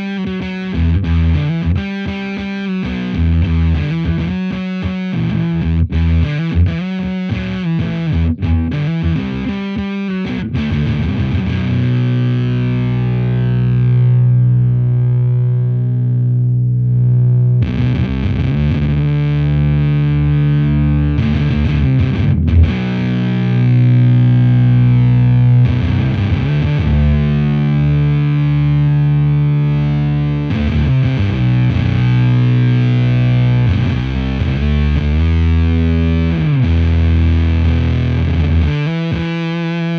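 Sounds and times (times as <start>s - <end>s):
fuzz electric guitar chords: 0.0s - 39.9s.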